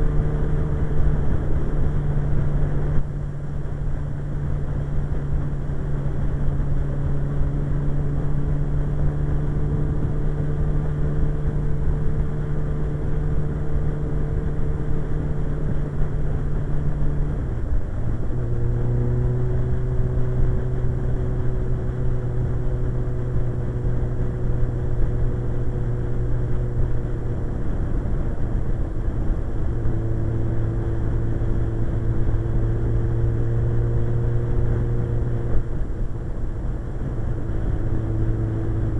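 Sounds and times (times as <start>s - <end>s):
low wind rumble: 0.0s - 38.9s
motorcycle engine cruising: 0.0s - 38.9s.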